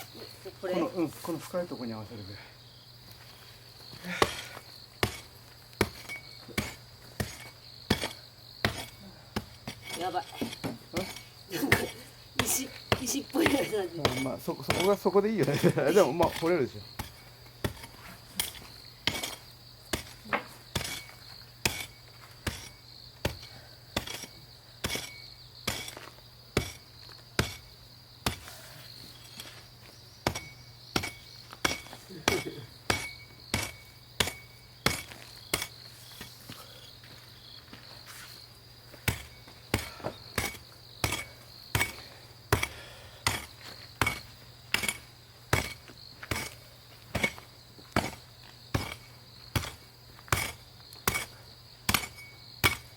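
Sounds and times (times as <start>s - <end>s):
insects trilling: 0.0s - 52.9s
digging tool striking stony ground: 4.0s - 36.5s, 38.9s - 52.9s.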